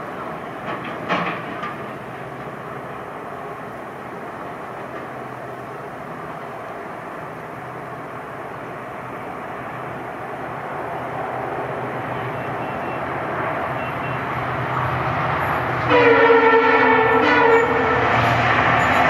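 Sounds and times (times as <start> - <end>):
diesel locomotive engine hum: 0.0 - 19.0
train rumble: 0.0 - 19.0.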